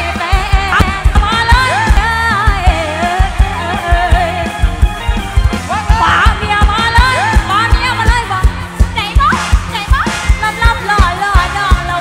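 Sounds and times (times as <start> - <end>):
woman singing: 0.0 - 5.1, 5.9 - 12.0
bass guitar: 0.0 - 12.0
electric guitar: 0.0 - 12.0
drum beat: 0.4 - 12.0.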